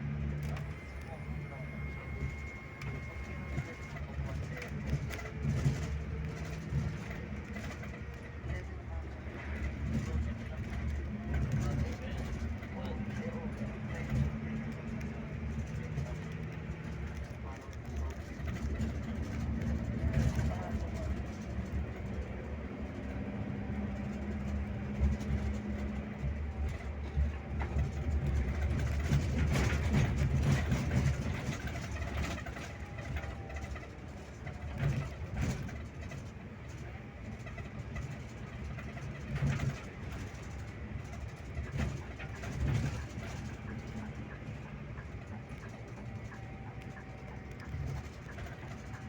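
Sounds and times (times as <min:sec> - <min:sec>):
bus diesel engine droning: 0:00.0 - 0:49.0.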